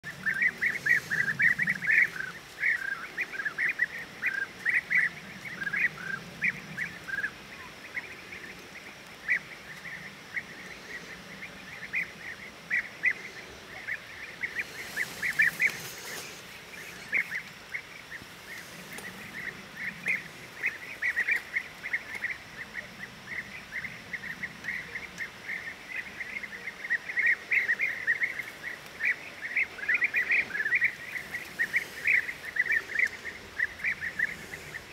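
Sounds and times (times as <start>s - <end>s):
birds making rolling high calls: 0.0s - 34.9s.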